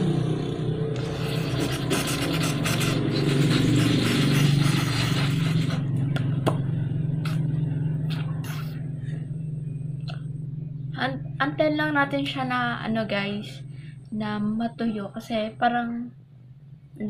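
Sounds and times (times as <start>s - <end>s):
vehicle engine humming: 0.0s - 15.8s.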